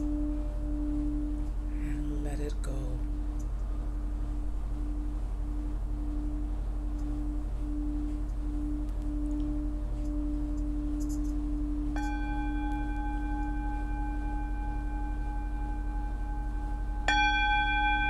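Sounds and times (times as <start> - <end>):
singing bowl strike ringing: 0.0 - 3.3, 4.8 - 18.0
singing bowl low tone: 0.0 - 18.0.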